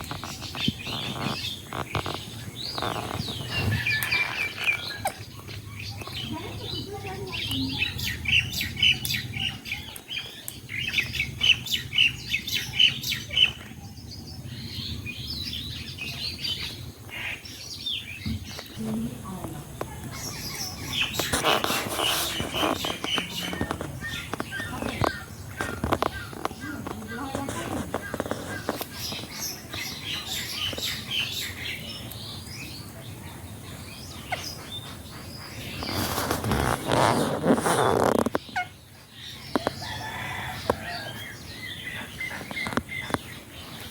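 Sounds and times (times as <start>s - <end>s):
parakeets chirping: 0.0s - 43.9s.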